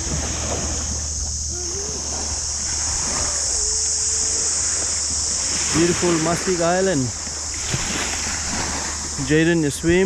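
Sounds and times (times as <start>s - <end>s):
small waves lapping on sand: 0.0s - 10.0s
steady high hiss: 0.0s - 10.0s.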